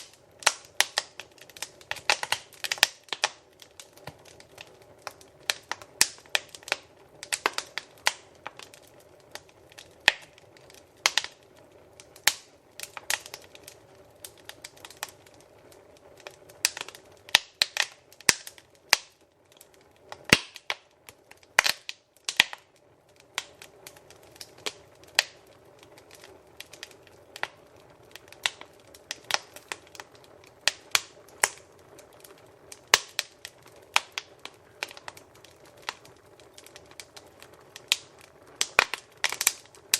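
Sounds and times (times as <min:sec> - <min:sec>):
faint hiss of flames: 0:00.0 - 0:39.9
wood fire crackling: 0:00.0 - 0:39.9.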